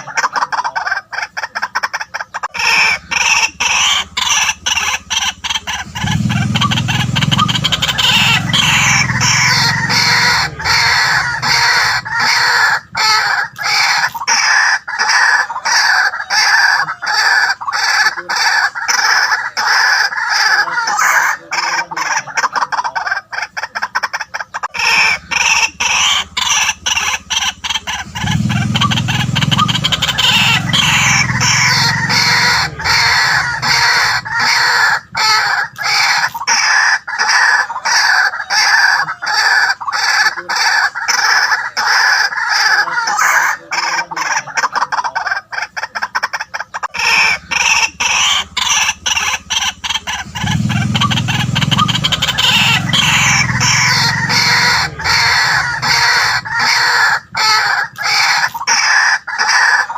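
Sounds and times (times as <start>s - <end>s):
bird croaking call: 0.0s - 59.9s.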